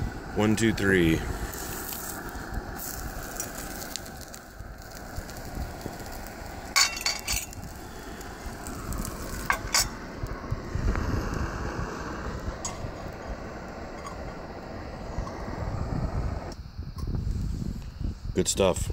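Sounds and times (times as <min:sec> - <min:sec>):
omelet sizzling in a skillet: 0:00.0 - 0:16.3.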